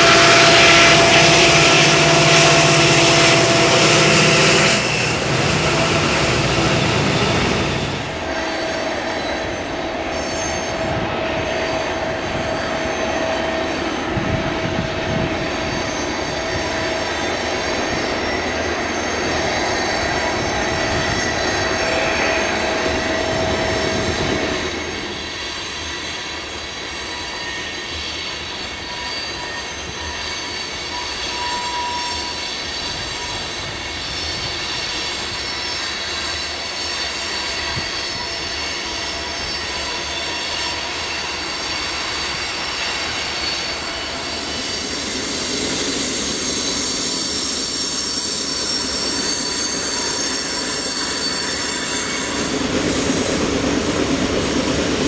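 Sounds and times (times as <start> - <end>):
diesel locomotive engine drone: 0.0 - 55.0
high whine: 0.0 - 55.0.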